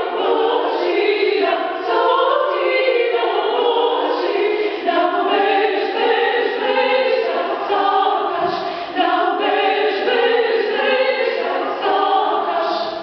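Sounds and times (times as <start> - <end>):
mixed choir singing folk song: 0.0 - 13.0.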